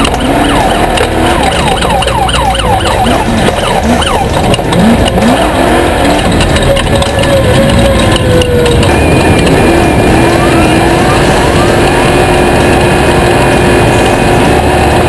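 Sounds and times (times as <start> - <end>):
race engines revving hard: 0.0 - 15.0
steady engine drone: 0.0 - 15.0
engine passing by: 2.8 - 15.0.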